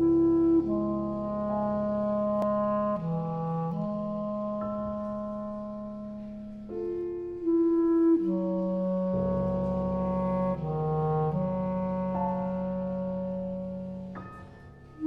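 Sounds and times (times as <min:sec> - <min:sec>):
clarinet long notes: 0:00.0 - 0:14.4
deep low tone: 0:00.0 - 0:15.0
prepared piano: 0:00.0 - 0:15.0.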